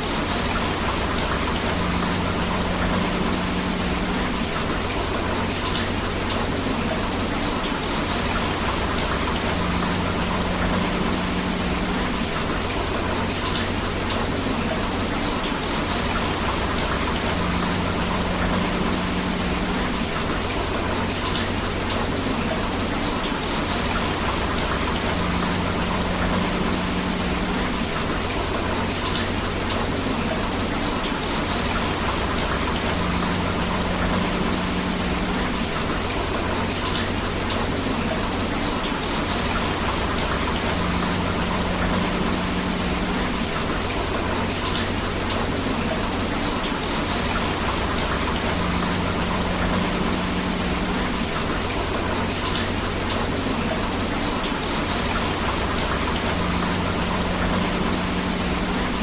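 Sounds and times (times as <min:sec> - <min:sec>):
flowing river: 0:00.0 - 0:59.0
steady rain: 0:00.0 - 0:59.0.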